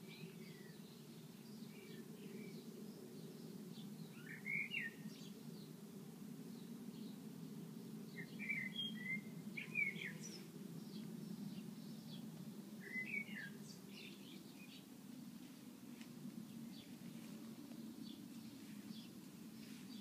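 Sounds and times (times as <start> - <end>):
low background noise: 0.0 - 20.0
songbirds chirping: 0.0 - 20.0.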